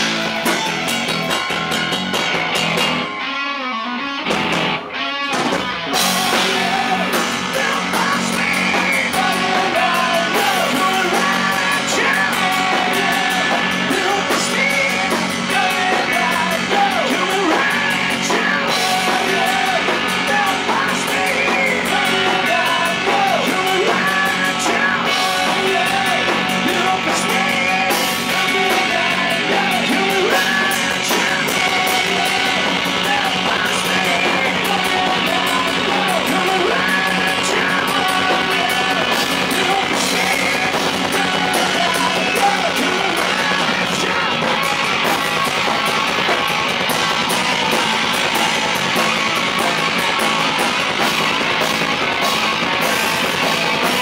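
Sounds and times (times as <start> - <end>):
distorted electric guitars: 0.0 - 54.0
drums: 0.0 - 54.0.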